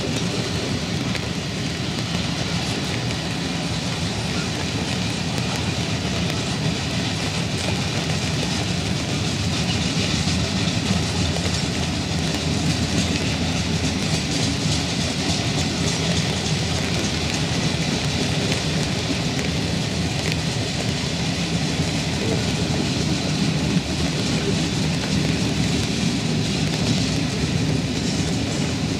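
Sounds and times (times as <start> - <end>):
freight train rumbling past: 0.0 - 28.9
wheels clicking over rail joints: 0.0 - 28.9.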